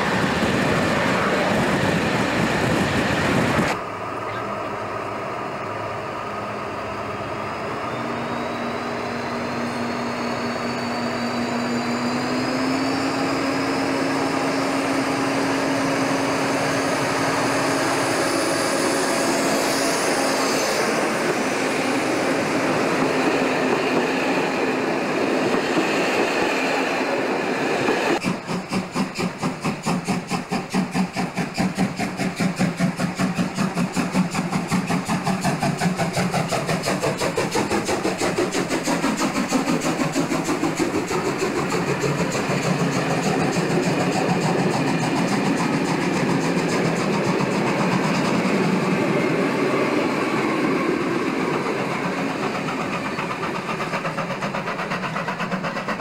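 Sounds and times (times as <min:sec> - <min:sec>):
diesel locomotive accelerating: 0:00.0 - 0:56.0
steam locomotive exhaust beats: 0:00.0 - 0:56.0
train coaches rumbling past: 0:00.0 - 0:56.0
hissing steam: 0:07.2 - 0:56.0.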